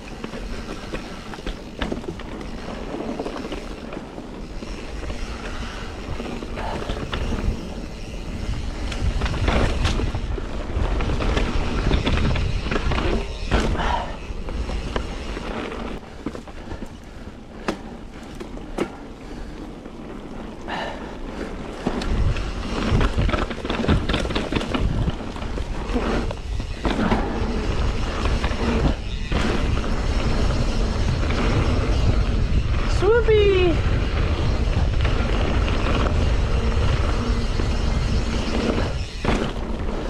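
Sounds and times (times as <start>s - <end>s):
wind buffeting microphone: 0.0s - 17.3s, 21.4s - 40.0s
bike rattling and clicking: 0.0s - 40.0s
bike tyres rolling on dirt: 0.0s - 40.0s.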